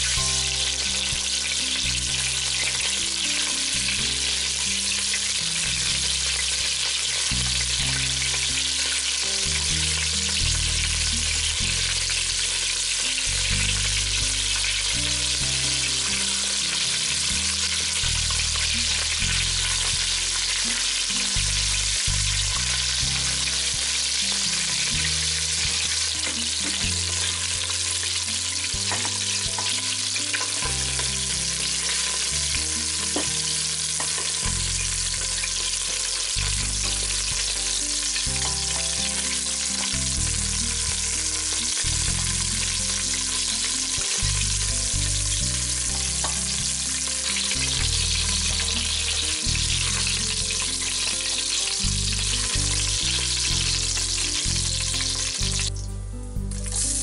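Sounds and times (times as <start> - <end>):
chicken sizzling in oil: 0.0 - 57.0.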